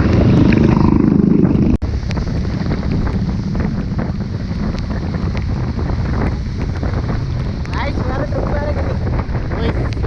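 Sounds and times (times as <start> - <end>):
low rumble of vehicle and road: 0.0 - 10.0
wind buffeting microphone: 0.0 - 10.0.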